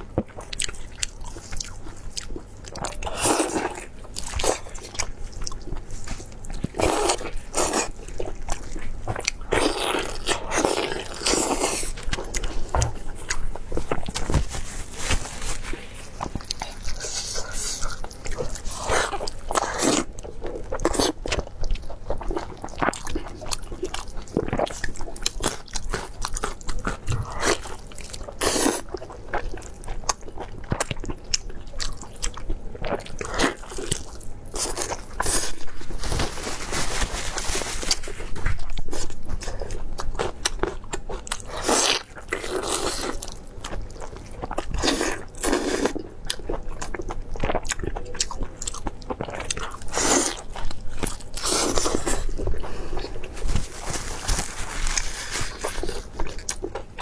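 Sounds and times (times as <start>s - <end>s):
crunchy chewing: 0.1s - 57.0s.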